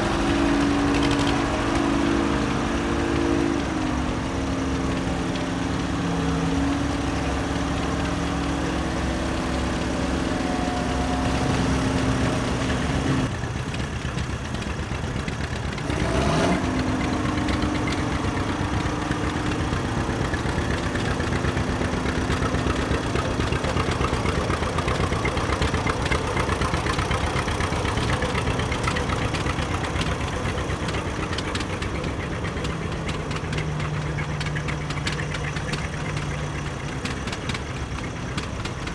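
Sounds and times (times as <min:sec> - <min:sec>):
tractor engines passing: 0:00.0 - 0:38.9.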